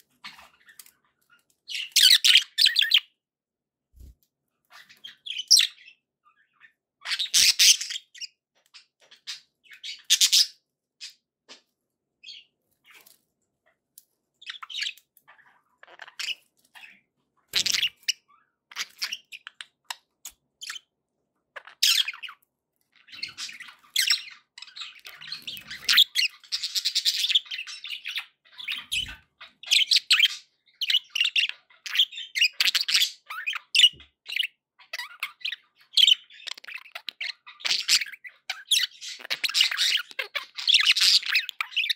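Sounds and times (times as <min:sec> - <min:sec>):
budgerigars chirping and chattering: 0:00.1 - 0:03.2, 0:04.7 - 0:11.2, 0:14.4 - 0:20.9, 0:21.6 - 0:41.9.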